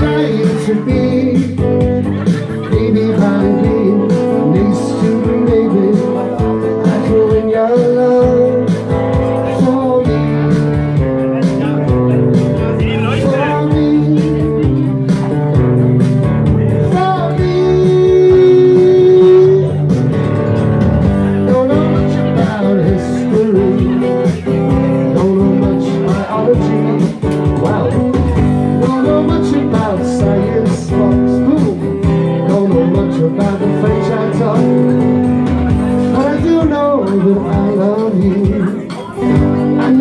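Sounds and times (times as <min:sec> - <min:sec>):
person singing: 0:00.0 - 0:15.8, 0:16.4 - 0:40.0
acoustic guitar strumming: 0:00.0 - 0:40.0.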